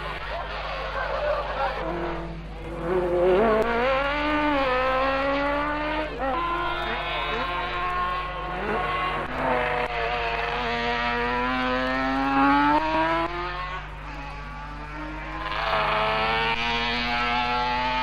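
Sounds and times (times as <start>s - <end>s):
racing engine at full throttle: 0.0s - 18.0s.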